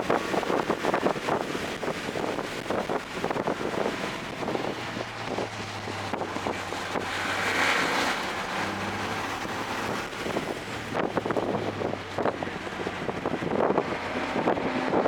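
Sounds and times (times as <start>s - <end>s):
turbocharged car engine: 0.0s - 15.0s
wind and road noise: 0.0s - 15.0s.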